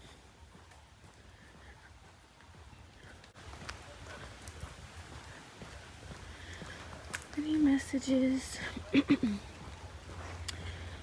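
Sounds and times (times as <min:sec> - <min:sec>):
footsteps on a path: 0:00.0 - 0:11.0.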